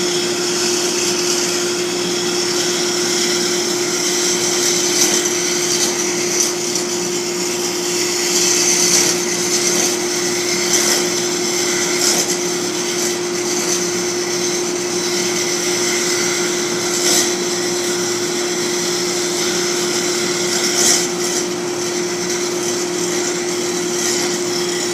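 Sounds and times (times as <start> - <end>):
lathe motor hum: 0.0 - 24.9
lathe tool scraping workpiece: 0.0 - 24.9.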